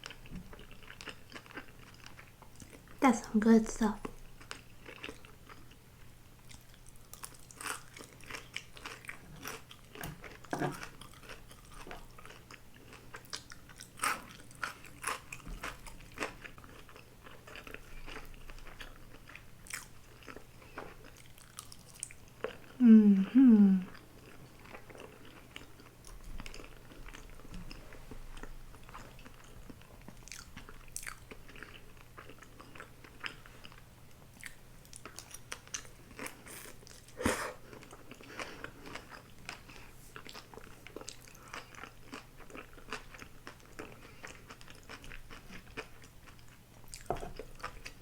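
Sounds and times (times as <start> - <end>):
food crunching: 0.0 - 2.9, 4.3 - 5.8, 6.4 - 22.8, 23.9 - 48.0.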